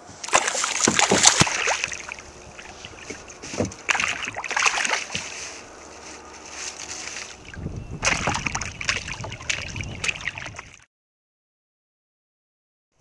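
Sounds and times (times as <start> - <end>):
fish thrashing and splashing: 0.2 - 10.8.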